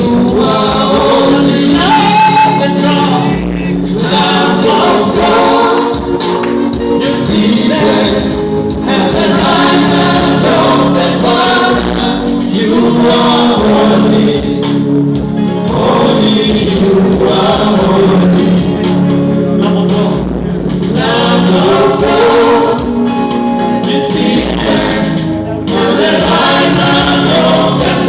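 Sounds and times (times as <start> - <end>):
group of voices singing: 0.0 - 28.0
steady musical accompaniment: 0.0 - 28.0.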